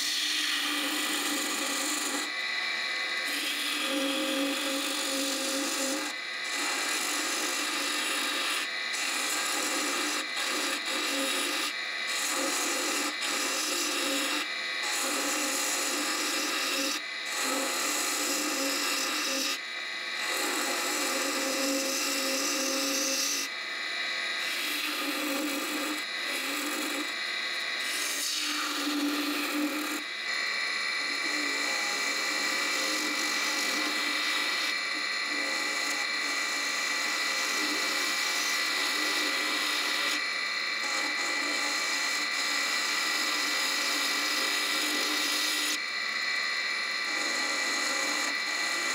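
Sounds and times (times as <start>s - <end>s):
turning tool cutting wood: 0.0s - 48.9s
wood lathe humming: 0.0s - 48.9s.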